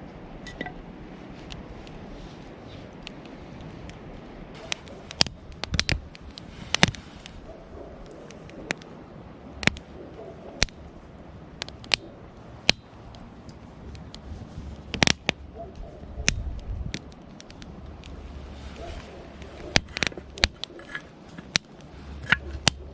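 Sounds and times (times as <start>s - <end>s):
campfire rumble: 0.0s - 22.9s
fire popping and snapping: 0.0s - 22.9s.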